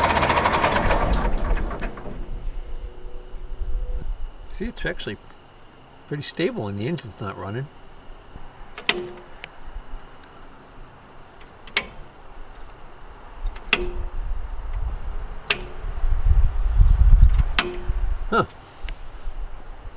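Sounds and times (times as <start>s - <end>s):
high insect chirring: 1.5s - 19.9s.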